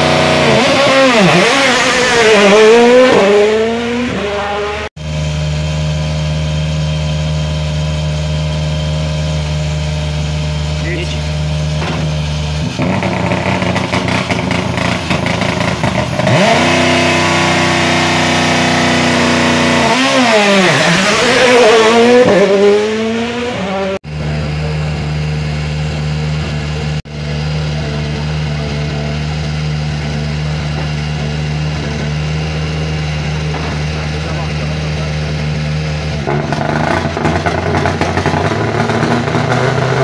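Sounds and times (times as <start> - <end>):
rally car engine popping and revving: 0.0 - 4.9, 11.7 - 27.0, 27.6 - 40.0.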